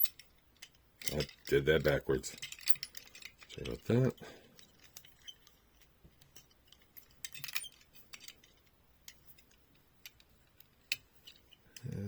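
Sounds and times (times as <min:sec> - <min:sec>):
toy and plastic packaging rattling: 0:00.0 - 0:11.6.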